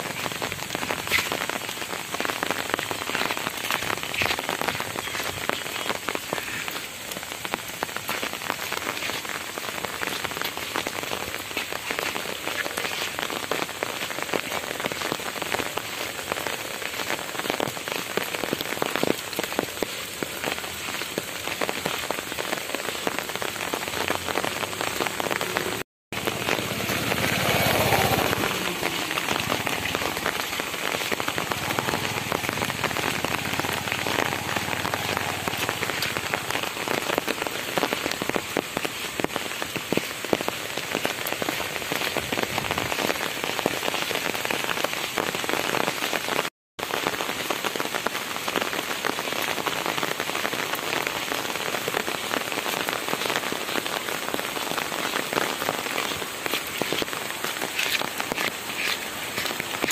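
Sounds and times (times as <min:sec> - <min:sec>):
heavy rain on umbrella: 0:00.0 - 0:59.9.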